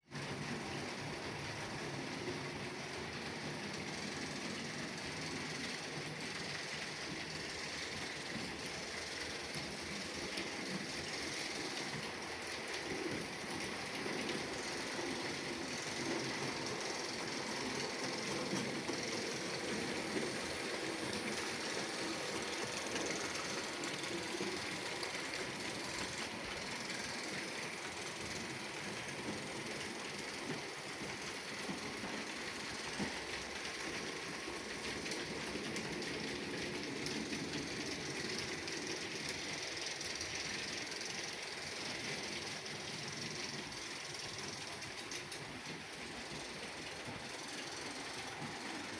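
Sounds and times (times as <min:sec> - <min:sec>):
model trains running on track: 0:00.0 - 0:48.9.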